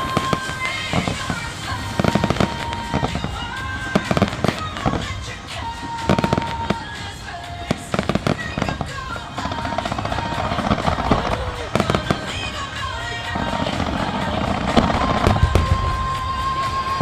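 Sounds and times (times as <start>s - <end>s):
firework shells bursting: 0.0s - 17.0s
music playing: 0.0s - 17.0s.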